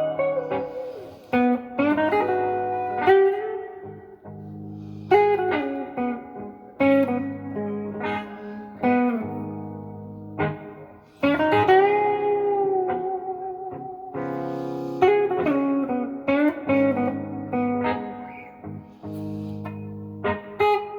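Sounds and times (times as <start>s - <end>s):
electric guitar blues lead: 0.0s - 20.9s.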